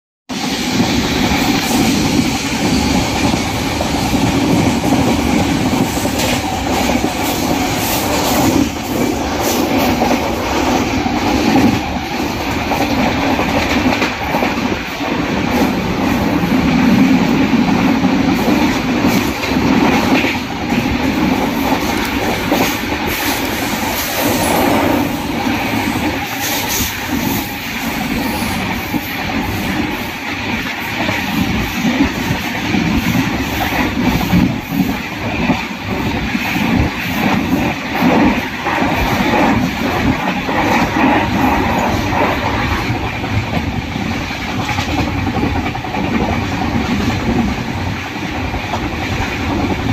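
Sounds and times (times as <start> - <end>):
train wheels rumbling on rail: 0.3 - 49.9.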